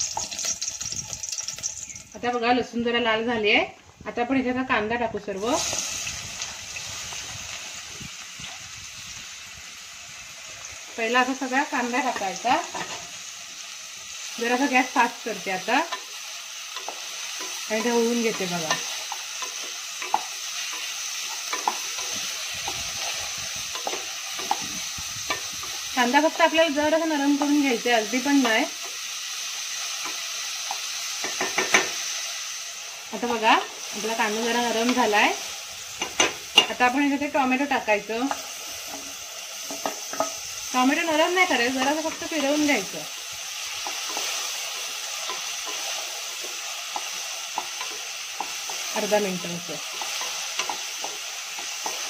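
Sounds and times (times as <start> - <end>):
onions sizzling in hot oil: 0.0 - 52.0.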